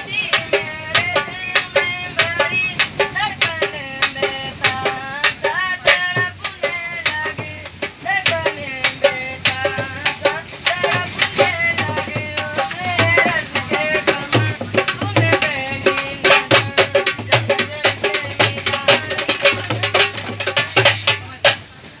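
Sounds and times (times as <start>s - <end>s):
hand drum fast rhythm: 0.0s - 21.8s
folk melody sung or played: 0.0s - 22.0s.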